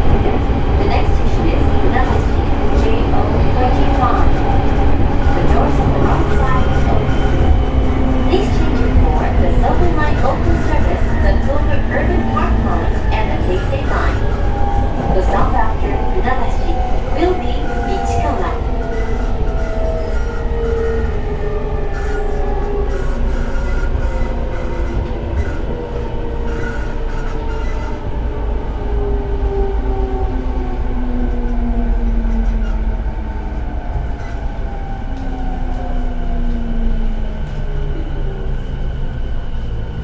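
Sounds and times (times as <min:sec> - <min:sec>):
wheels rumbling on track: 0:00.0 - 0:40.0.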